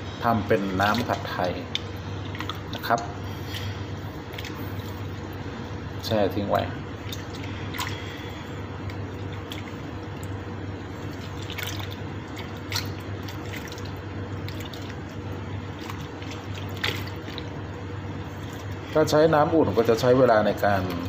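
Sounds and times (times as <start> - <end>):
low steady hum: 0.0 - 21.0
hand squeezing pulp in water: 0.6 - 5.4, 6.0 - 21.0.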